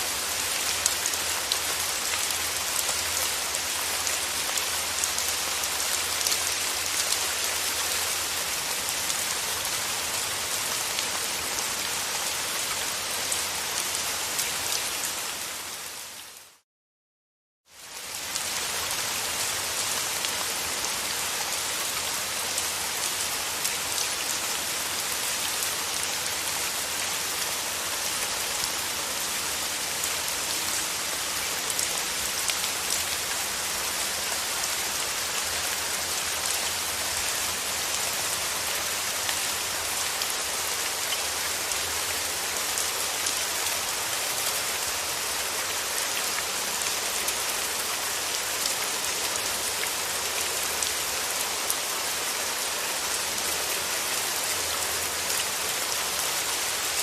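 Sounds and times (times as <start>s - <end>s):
rain falling: 0.0s - 16.6s, 17.7s - 57.0s.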